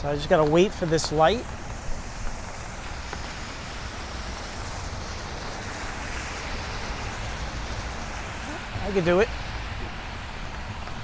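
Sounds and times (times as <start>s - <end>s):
street traffic hiss: 0.0s - 11.0s
wind rumbling on microphone: 0.0s - 11.0s.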